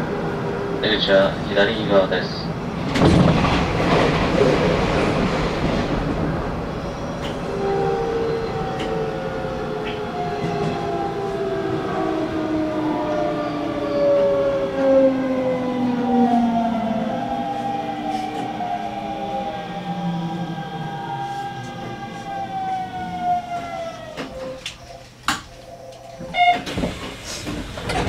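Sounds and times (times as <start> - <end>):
train traction motors whining: 4.7 - 28.0.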